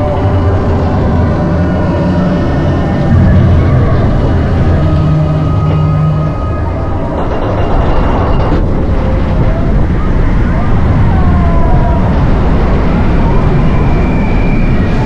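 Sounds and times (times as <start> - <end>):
faint wavering voices: 0.0 - 15.0
roller coaster rumbling on track: 0.0 - 15.0.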